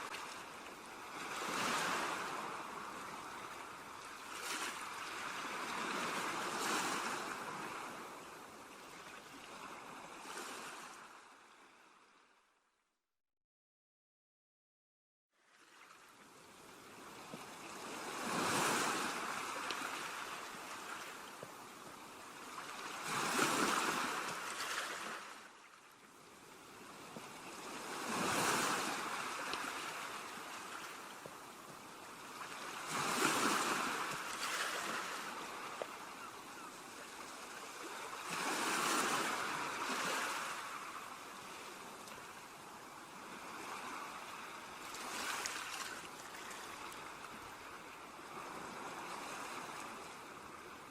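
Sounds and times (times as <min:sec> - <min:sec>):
ocean waves washing onto beach: 0:00.0 - 0:11.2, 0:15.5 - 0:50.9.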